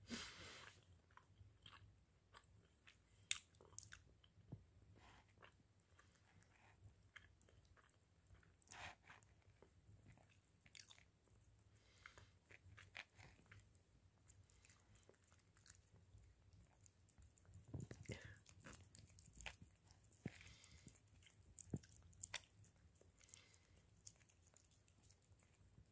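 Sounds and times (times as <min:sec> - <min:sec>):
cat chewing pizza: 0:00.6 - 0:25.9.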